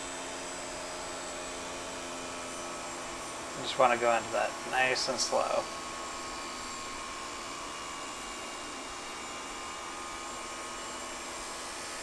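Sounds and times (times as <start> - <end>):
table saw whirring: 0.0 - 12.0.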